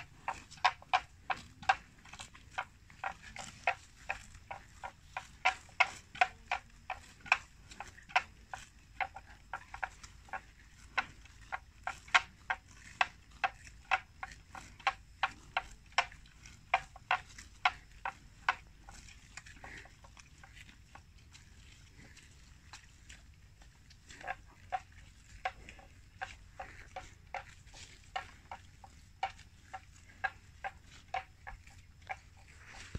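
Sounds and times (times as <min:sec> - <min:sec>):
grass snapping as animals graze: 0:00.0 - 0:32.9.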